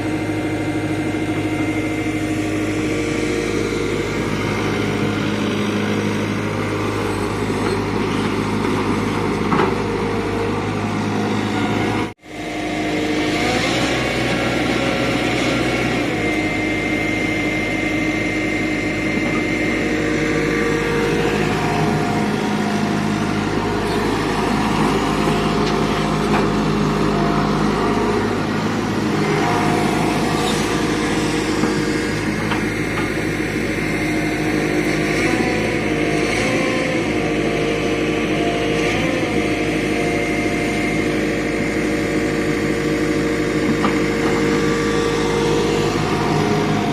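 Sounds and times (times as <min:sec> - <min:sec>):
excavator diesel engine: 0:00.0 - 0:46.9.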